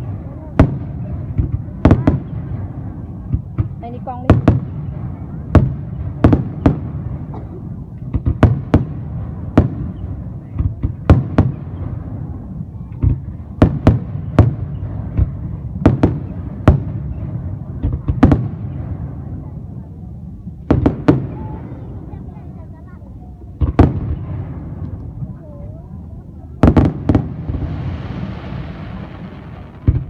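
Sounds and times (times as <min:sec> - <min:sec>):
fireworks bangs: 0:00.0 - 0:25.8, 0:26.5 - 0:30.0.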